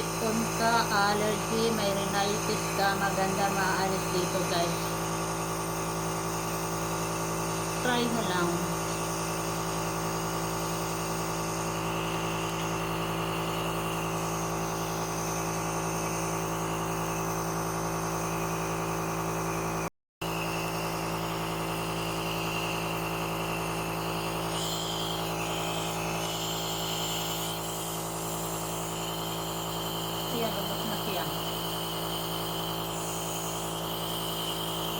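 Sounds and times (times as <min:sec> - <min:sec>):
nebulizer motor humming: 0:00.0 - 0:34.9.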